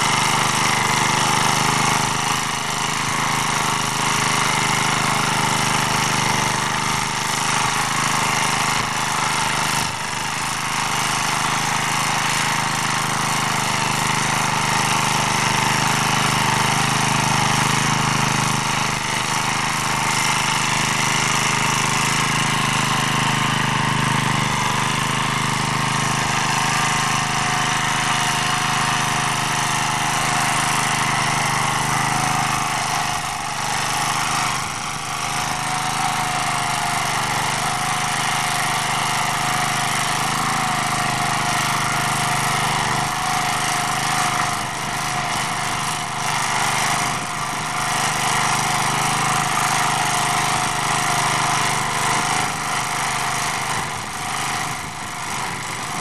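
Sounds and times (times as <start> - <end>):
rotary tiller cutting soil: 0.0 - 56.0
small tractor engine running: 0.0 - 56.0.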